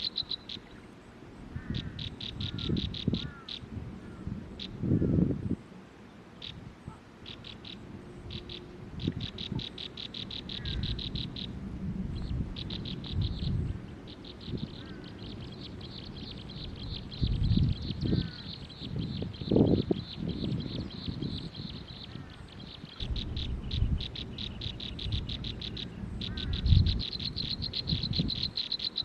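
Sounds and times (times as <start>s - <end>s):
nestling birds cheeping: 0.0s - 29.0s.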